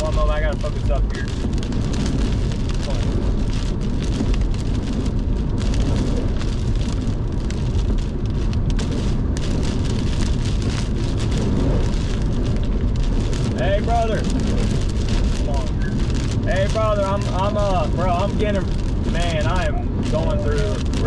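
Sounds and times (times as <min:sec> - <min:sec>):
rain on car body and glass: 0:00.0 - 0:21.0
road noise: 0:00.0 - 0:21.0
wind gusts: 0:00.0 - 0:21.0.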